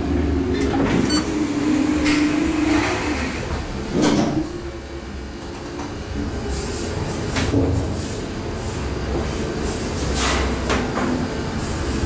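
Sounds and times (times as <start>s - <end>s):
elevator humming and rumbling: 0.0s - 10.1s.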